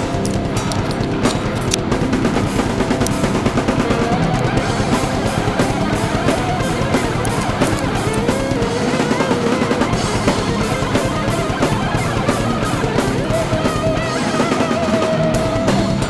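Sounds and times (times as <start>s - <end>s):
heavy metal music: 0.0s - 16.0s
wavering guitar lead note: 0.5s - 16.0s.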